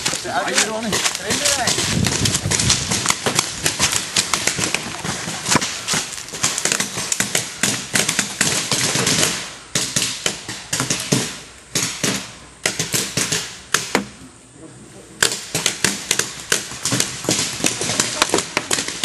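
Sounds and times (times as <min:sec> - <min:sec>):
paintball markers firing: 0:00.0 - 0:14.1, 0:15.2 - 0:19.0.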